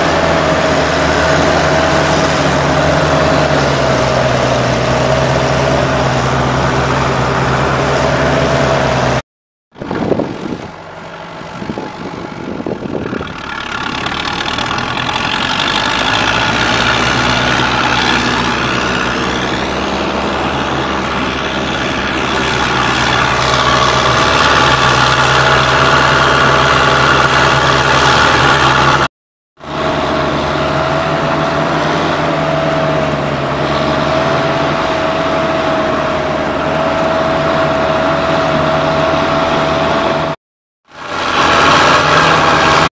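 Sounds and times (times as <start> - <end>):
swamp vehicle engine running: 0.0 - 42.9.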